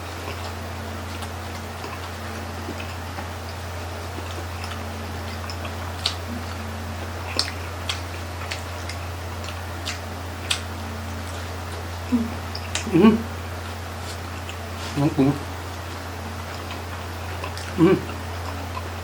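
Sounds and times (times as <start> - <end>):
close-up chewing: 0.0 - 19.0
steady low hum: 0.0 - 19.0
mouth clicks and smacks: 0.1 - 19.0.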